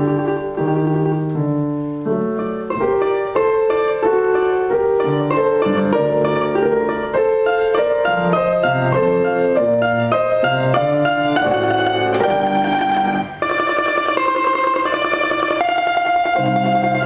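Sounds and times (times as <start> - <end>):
lower accompanying notes: 0.0 - 17.0
plucked string folk melody: 0.0 - 17.0.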